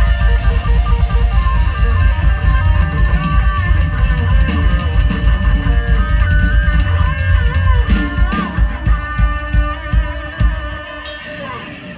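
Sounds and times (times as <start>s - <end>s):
bass and drum beat: 0.0s - 11.6s.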